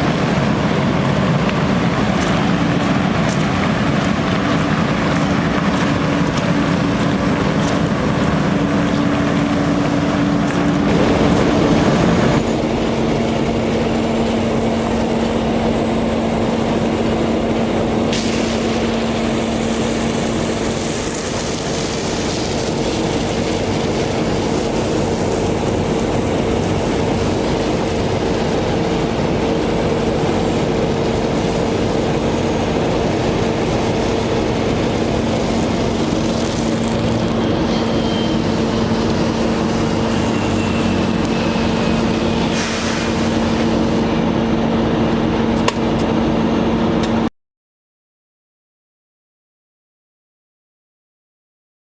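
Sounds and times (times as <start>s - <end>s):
truck engine humming: 0.0s - 47.3s.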